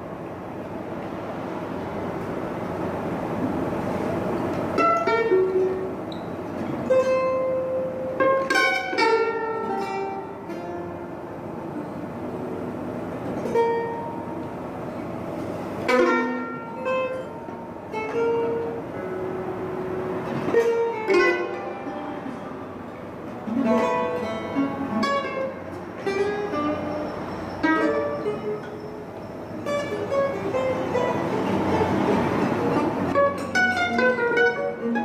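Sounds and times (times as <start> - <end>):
mandolin picking: 2.1 - 35.0.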